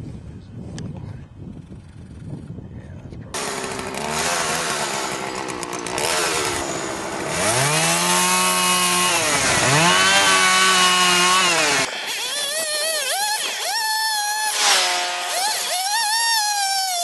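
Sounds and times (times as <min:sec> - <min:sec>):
chainsaw cutting log: 0:03.4 - 0:17.0.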